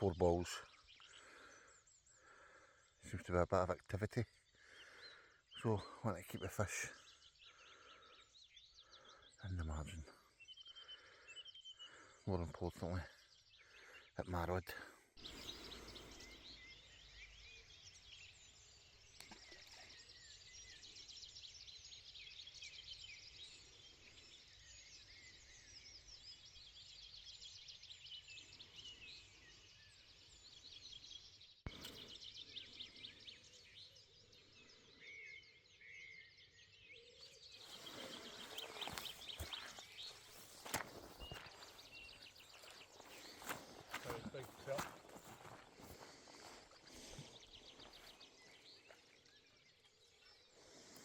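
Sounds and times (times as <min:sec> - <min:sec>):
faint birdsong: 0:00.0 - 0:51.0.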